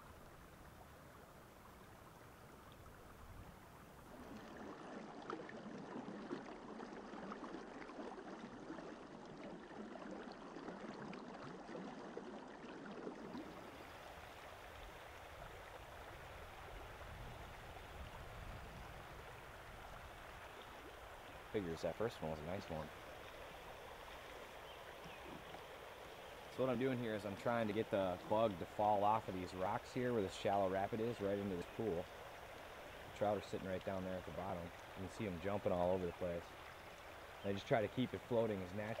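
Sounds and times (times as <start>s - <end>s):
creek water babbling over rocks: 0.0s - 39.0s.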